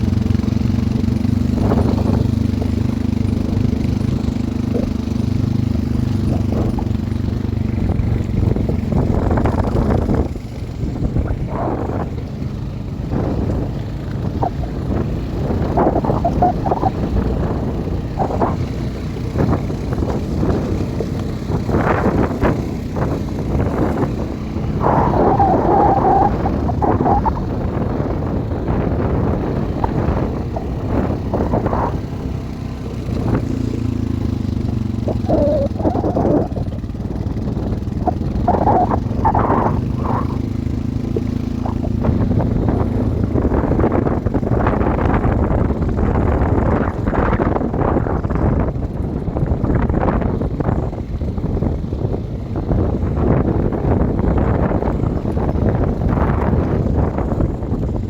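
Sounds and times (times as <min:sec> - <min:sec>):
atv engine running: 0:00.0 - 0:58.0
wind buffeting microphone: 0:00.0 - 0:58.0.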